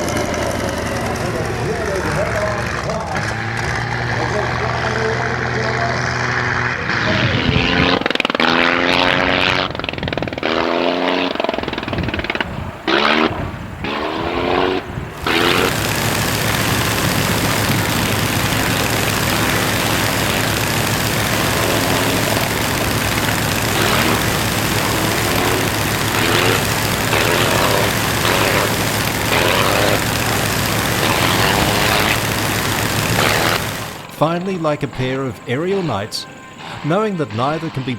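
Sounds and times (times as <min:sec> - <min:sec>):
propeller planes flying low: 0:00.0 - 0:37.9
rough steady engine noise: 0:00.0 - 0:37.9.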